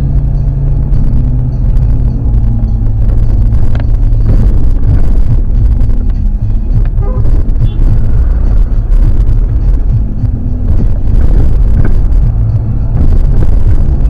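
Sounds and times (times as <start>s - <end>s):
car engine low drone: 0.0s - 14.0s.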